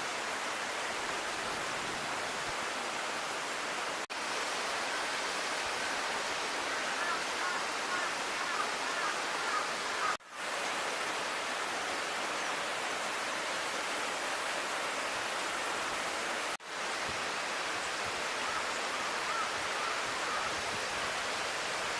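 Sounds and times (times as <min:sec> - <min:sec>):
rushing stream water: 0:00.0 - 0:21.9.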